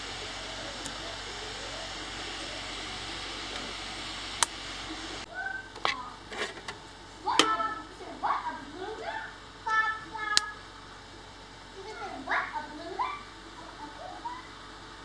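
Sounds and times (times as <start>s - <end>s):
printer fans whirring: 0.0s - 15.0s.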